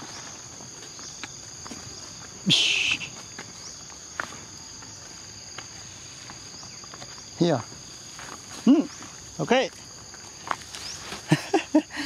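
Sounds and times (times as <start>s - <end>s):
footsteps: 0.0s - 11.4s
insects droning: 0.0s - 12.0s.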